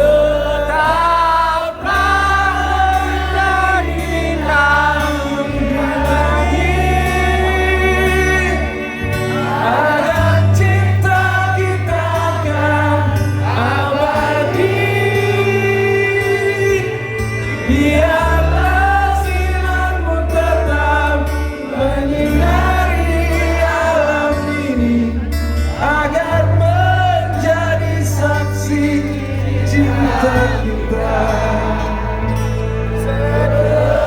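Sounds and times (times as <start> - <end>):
bass accompaniment: 0.0 - 34.0
choir singing: 0.0 - 34.0.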